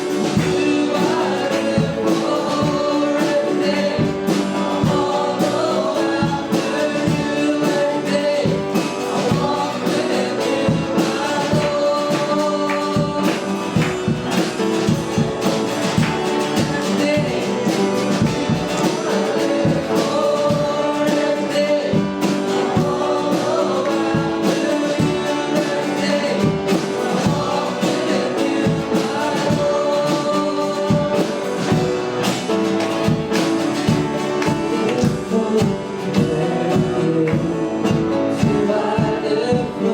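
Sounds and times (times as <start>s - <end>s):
instrumental accompaniment with beat: 0.0s - 39.9s
voices singing gospel song: 0.0s - 39.9s.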